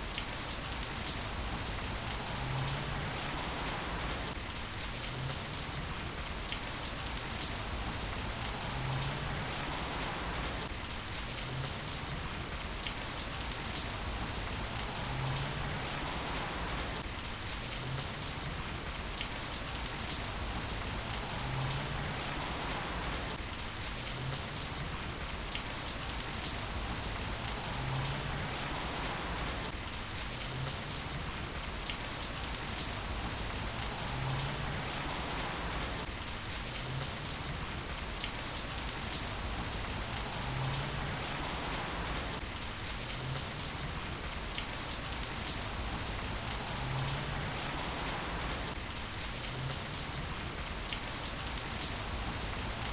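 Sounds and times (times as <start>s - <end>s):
heavy rain on hard surfaces: 0.0s - 52.9s.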